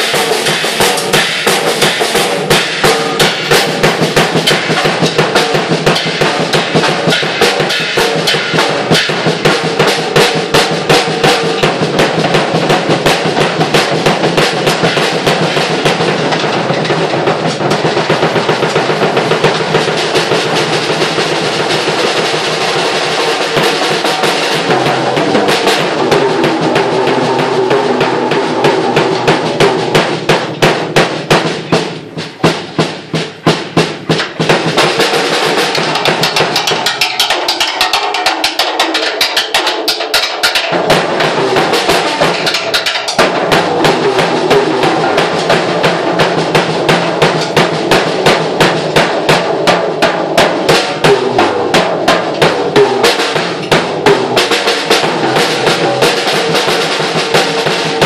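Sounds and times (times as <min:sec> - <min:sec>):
acoustic drum kit playing: 0:00.0 - 0:58.0.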